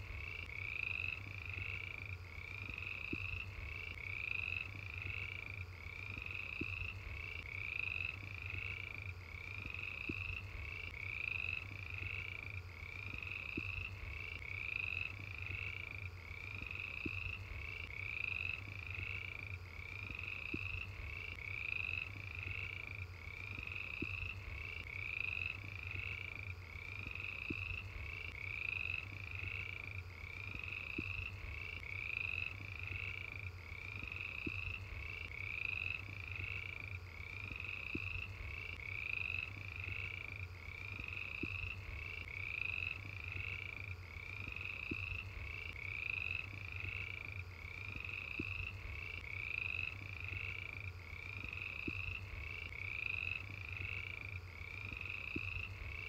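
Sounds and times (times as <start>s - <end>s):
crickets chirping: 0.0s - 56.0s
frogs calling: 0.0s - 56.0s.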